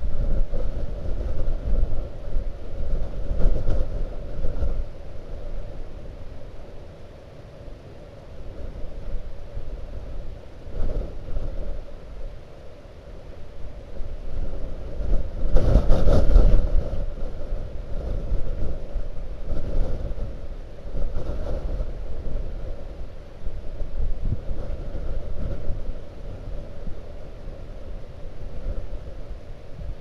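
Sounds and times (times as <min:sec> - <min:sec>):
blizzard wind gusting: 0:00.0 - 0:30.0.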